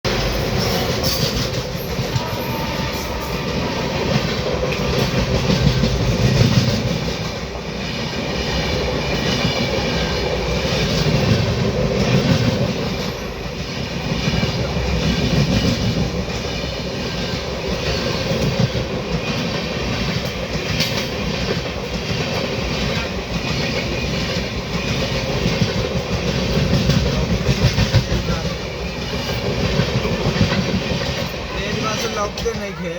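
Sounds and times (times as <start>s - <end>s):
train rumbling past: 0.0s - 32.9s.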